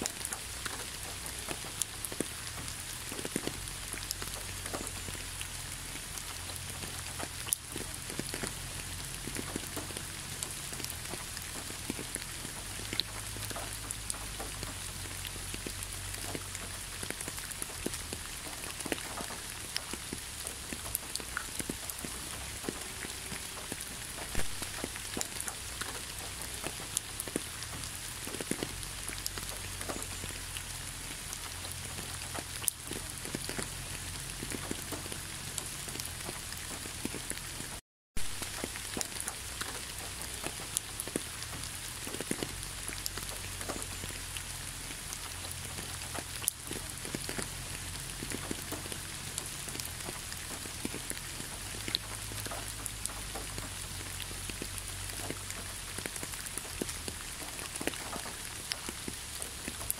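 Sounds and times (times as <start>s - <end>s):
raindrops dripping: 0.0s - 59.9s
steady rain falling: 0.0s - 59.9s.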